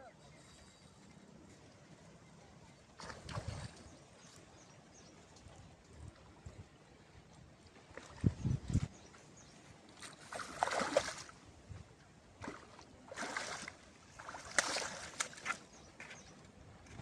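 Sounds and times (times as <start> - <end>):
water splashing and sloshing: 0.3 - 17.0.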